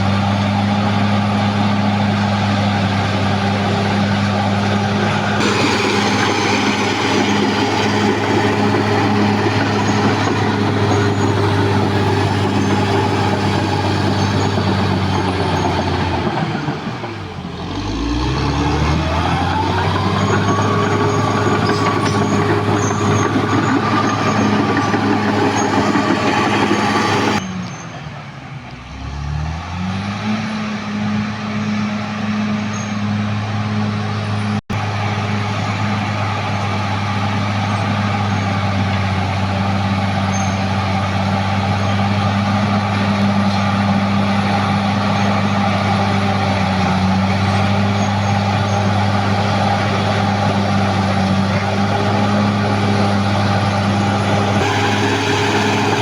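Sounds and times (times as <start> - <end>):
bulldozer diesel engine running: 0.0 - 28.2, 31.5 - 56.0.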